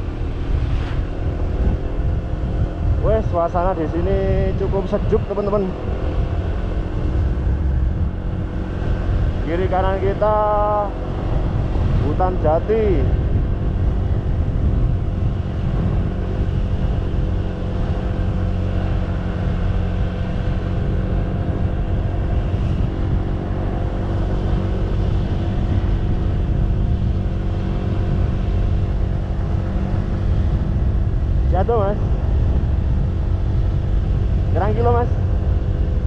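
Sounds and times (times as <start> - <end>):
motorcycle engine cruising: 0.0 - 36.0
wind rumble on microphone: 0.0 - 36.0.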